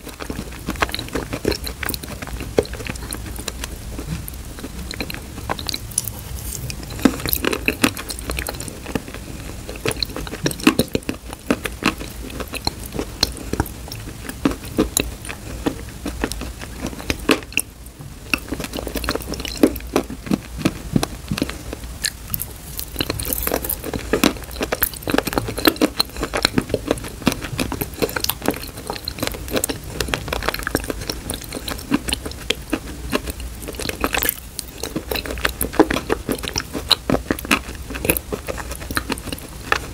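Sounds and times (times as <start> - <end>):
close chewing and mouth smacks: 0.0 - 39.9.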